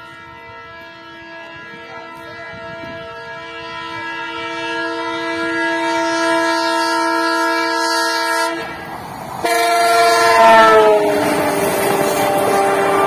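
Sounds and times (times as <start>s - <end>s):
locomotive air horn: 0.0s - 13.0s
train rumble: 0.0s - 13.0s.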